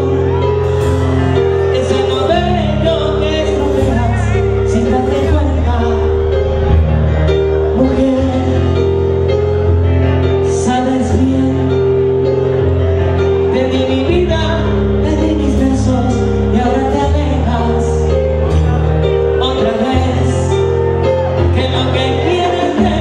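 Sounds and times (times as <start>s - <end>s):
live salsa band playing: 0.0s - 23.0s
man singing into microphone: 1.4s - 23.0s.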